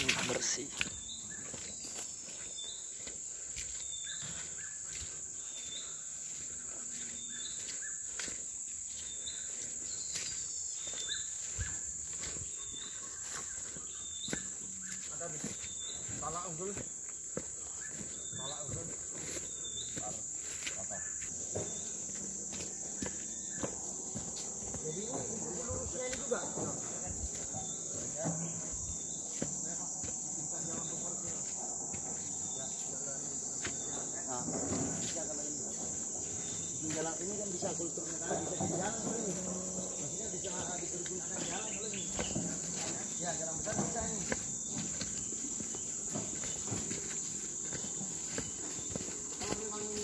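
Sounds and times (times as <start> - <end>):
footsteps on dirt path: 0.0 - 50.0
insects droning: 0.0 - 50.0.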